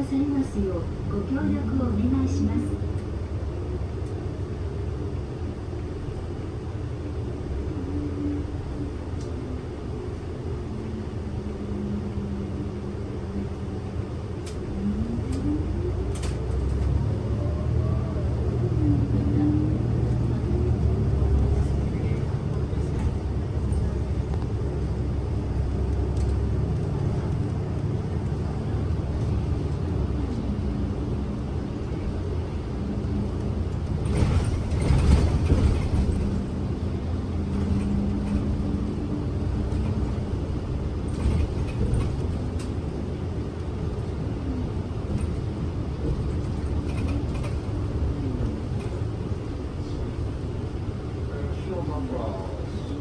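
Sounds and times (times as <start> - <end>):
bus diesel engine hum: 0.0 - 53.0
road rumble: 0.0 - 53.0.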